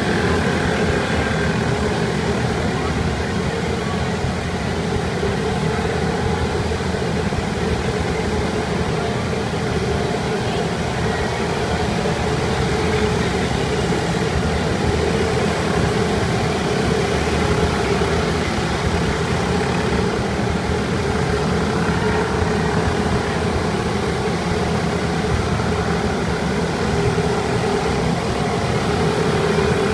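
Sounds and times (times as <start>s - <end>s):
propeller churning water: 0.0s - 29.9s
small boat motors droning: 0.0s - 29.9s.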